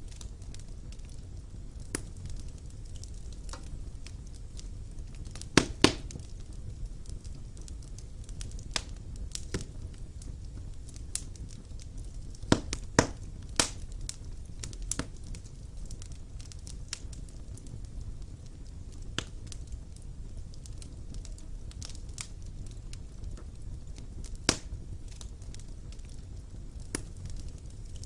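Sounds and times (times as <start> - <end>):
fire crackling and popping: 0.0 - 28.0
low rumble of flames: 0.0 - 28.0.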